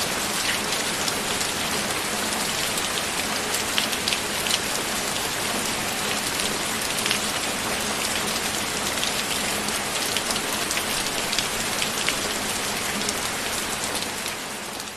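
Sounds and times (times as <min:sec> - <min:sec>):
rain hissing on a surface: 0:00.0 - 0:14.9.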